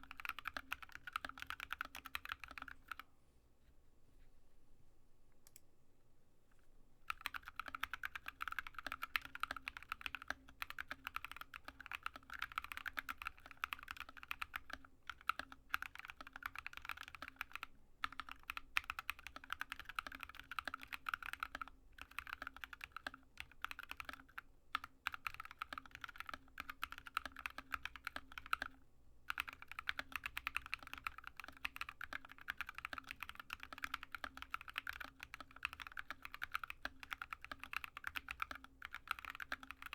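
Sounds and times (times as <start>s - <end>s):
mechanical keyboard typing: 0.0s - 3.0s, 7.1s - 39.9s.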